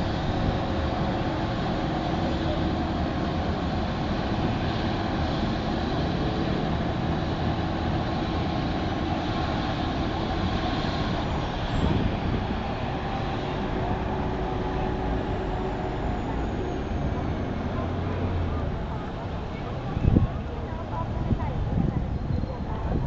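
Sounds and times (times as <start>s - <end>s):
helicopter rotor and engine: 0.0s - 23.0s.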